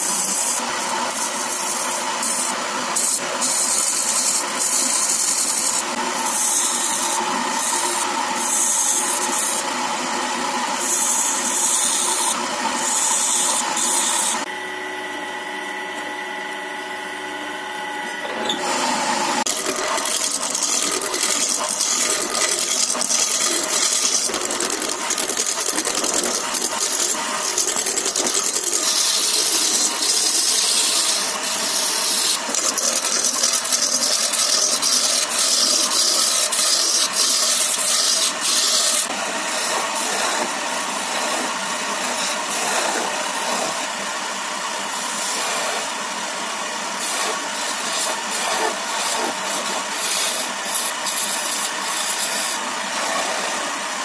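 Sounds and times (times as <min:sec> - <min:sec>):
gouge cutting spinning wood: 0:00.0 - 0:14.5, 0:18.2 - 0:54.0
lathe motor hum: 0:00.0 - 0:54.0.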